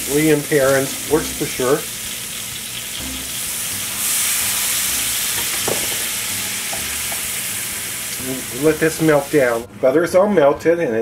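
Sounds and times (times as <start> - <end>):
fat and spices sizzling in a skillet: 0.0 - 9.7.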